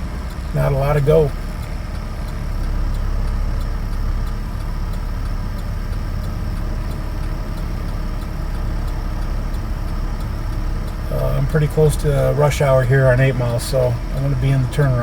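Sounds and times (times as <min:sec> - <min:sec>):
car cabin engine and road rumble: 0:00.0 - 0:15.0.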